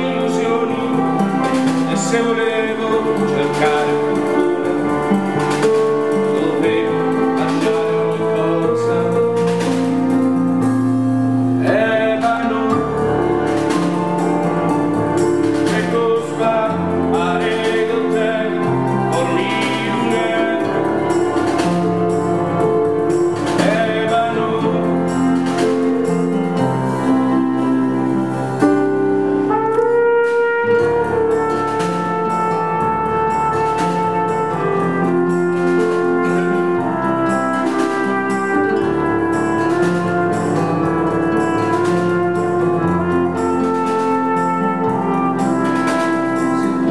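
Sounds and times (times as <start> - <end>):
acoustic ensemble playing: 0.0 - 46.9.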